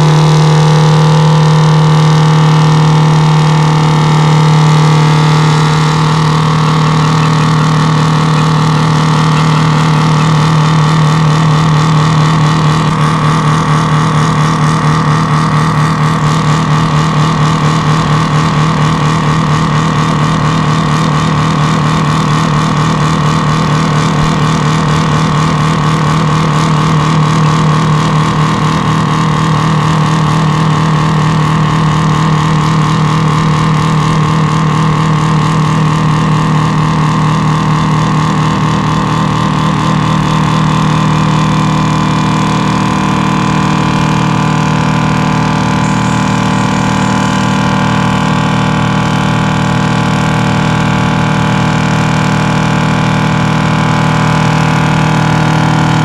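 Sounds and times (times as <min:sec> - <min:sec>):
diesel truck engine running loud: 0:00.0 - 0:56.0
tyres spinning in a burnout: 0:00.0 - 0:56.0.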